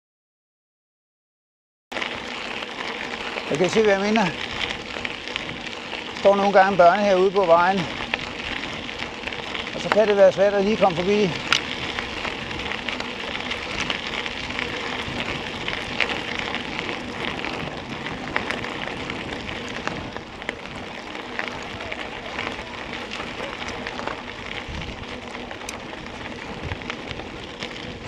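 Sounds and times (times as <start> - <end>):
bike clicks and rattles: 1.9 - 28.0
bike tyres crunching on gravel: 1.9 - 28.0.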